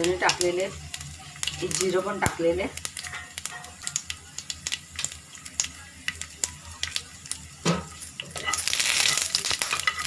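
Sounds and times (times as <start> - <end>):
loud steady sizzle: 0.0 - 10.0
seeds crackling in hot oil: 0.0 - 10.0.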